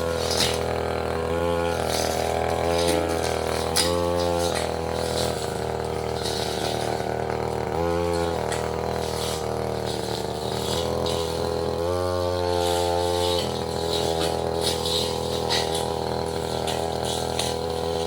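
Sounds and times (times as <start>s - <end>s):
brush cutter engine running: 0.0s - 18.0s.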